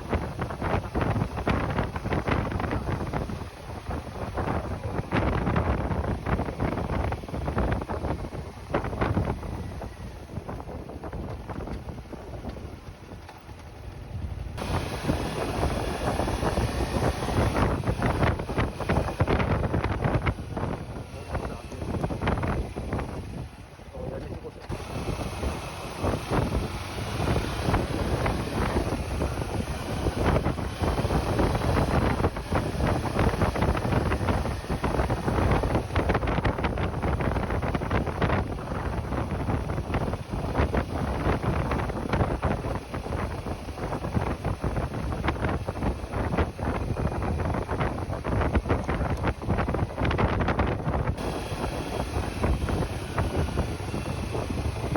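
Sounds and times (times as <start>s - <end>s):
engine and road rumble: 0.0s - 54.9s
wind buffeting microphone: 0.0s - 54.9s.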